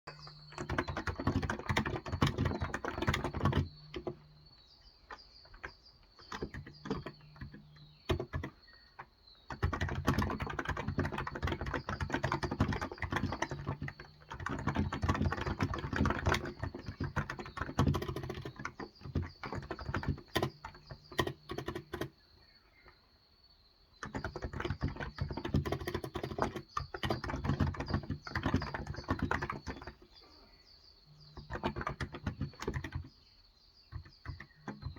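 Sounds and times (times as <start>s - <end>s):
keyboard typing: 0.1s - 22.2s, 24.0s - 30.3s, 31.1s - 33.2s, 33.9s - 34.9s.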